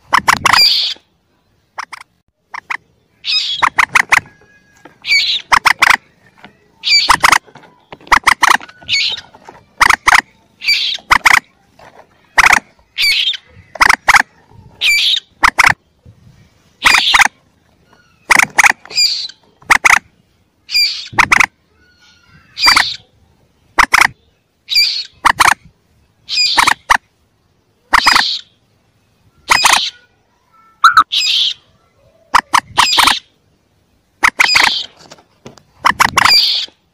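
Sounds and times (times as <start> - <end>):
young birds' short sharp calls: 0.0 - 1.1, 1.8 - 11.6, 12.2 - 15.8, 16.7 - 23.1, 23.7 - 27.0, 27.9 - 28.6, 29.3 - 33.4, 34.2 - 35.0, 35.7 - 36.8.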